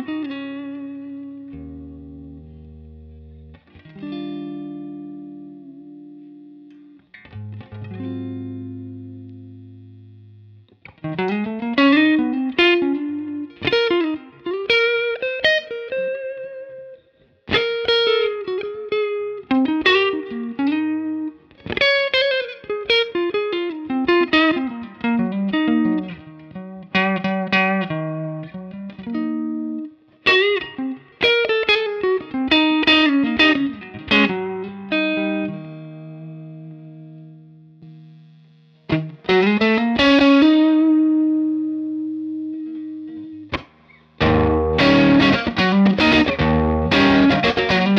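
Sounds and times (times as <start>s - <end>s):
electric guitar lead phrases: 0.0s - 47.9s.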